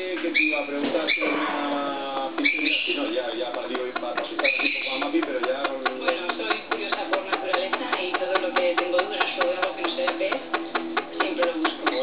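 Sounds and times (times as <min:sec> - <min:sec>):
beak tapping on hard tabletop: 0:01.6 - 0:12.0.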